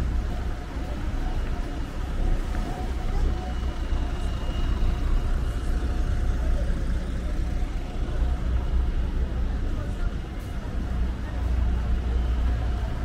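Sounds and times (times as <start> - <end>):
bus engine idling: 0.0 - 13.0
street traffic noise: 0.0 - 13.0.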